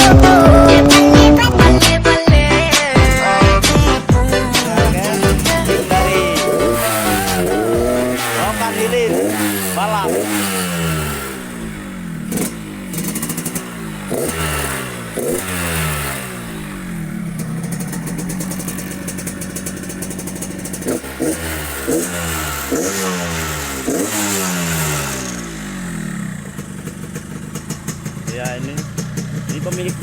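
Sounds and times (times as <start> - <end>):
two-stroke motorcycle engine revving: 0.0 - 30.0.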